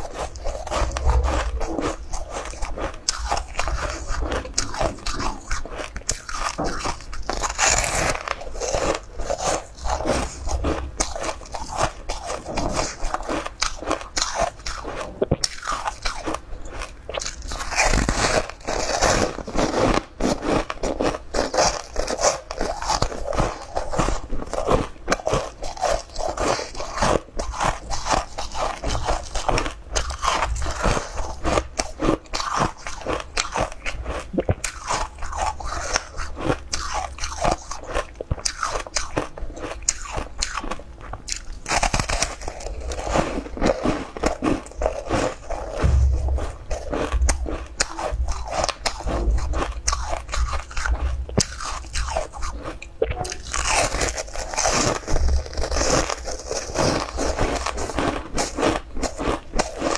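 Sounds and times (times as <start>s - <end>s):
person crunching food: 0.0s - 59.9s.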